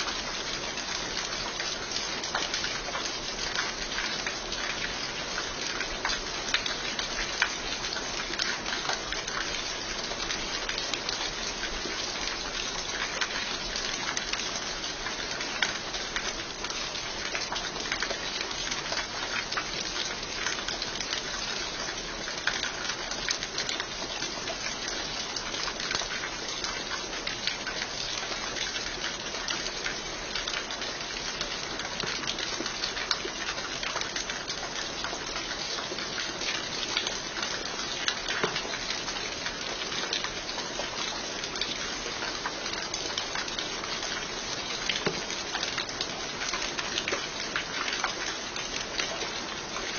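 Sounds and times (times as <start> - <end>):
rain falling steadily: 0.0 - 49.9
raindrops striking close by: 0.0 - 49.9.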